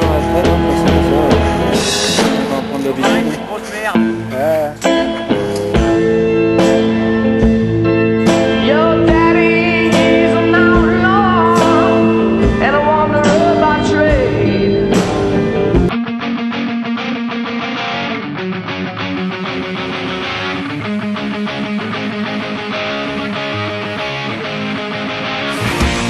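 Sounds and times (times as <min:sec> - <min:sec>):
guitar song: 0:00.0 - 0:26.0.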